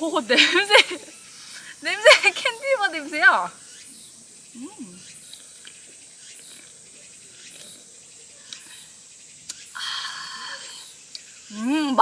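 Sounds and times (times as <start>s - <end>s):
faint insects chirring: 0.0s - 12.0s
insect buzzing call: 0.0s - 12.0s
low steady hiss: 0.0s - 12.0s.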